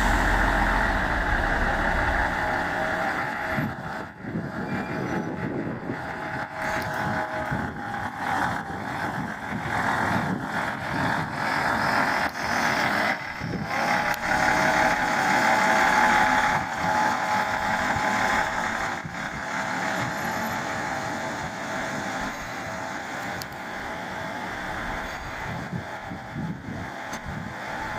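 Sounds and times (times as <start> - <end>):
diesel railcar passing slowly: 0.0 - 27.9.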